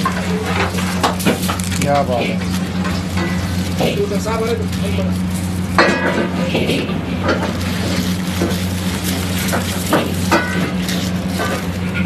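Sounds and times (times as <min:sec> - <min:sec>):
aluminium foil crinkling: 0:00.0 - 0:12.0
steady low hum: 0:00.0 - 0:12.0.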